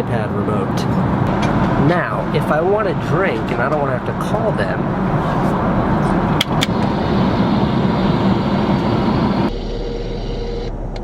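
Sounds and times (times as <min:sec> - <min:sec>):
airliner cabin roar: 0:00.8 - 0:11.0.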